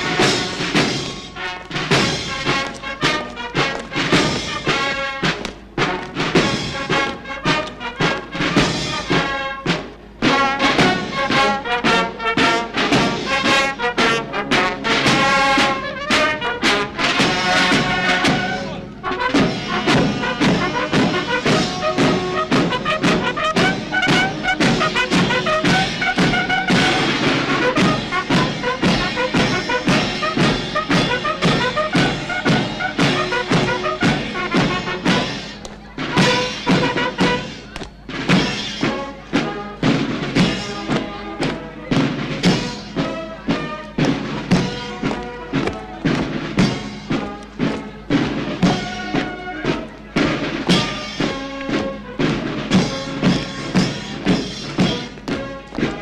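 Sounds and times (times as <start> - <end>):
brass band march: 0.0 - 56.0
heavy drum beat: 0.0 - 56.0.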